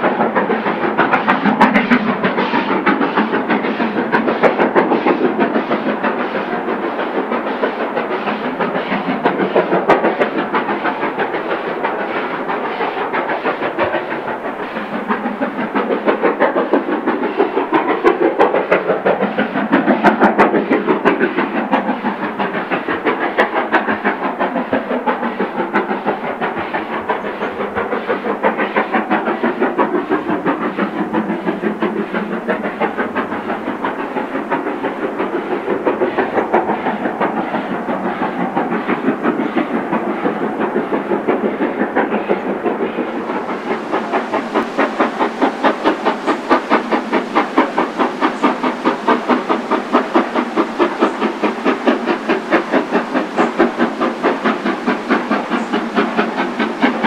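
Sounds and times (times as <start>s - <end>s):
high steam hiss: 0.0s - 57.0s
steam locomotive exhaust beating: 0.0s - 57.0s.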